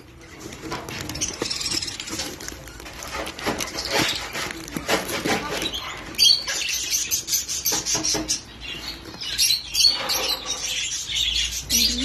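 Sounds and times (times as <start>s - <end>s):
parrots chirping and chattering: 0.0s - 12.0s.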